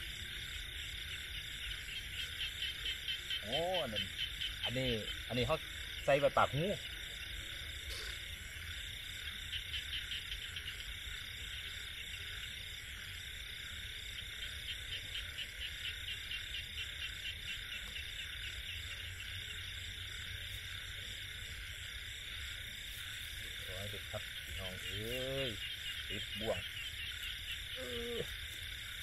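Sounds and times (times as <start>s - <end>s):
frogs and insects droning: 0.0s - 29.0s
rapid pulsed frog calls: 0.0s - 29.0s.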